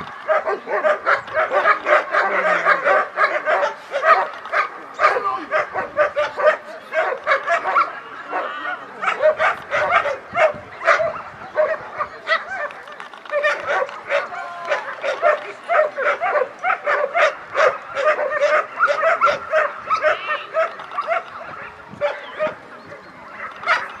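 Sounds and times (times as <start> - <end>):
dog barking rapidly with yips: 0.3 - 22.6, 23.3 - 24.0.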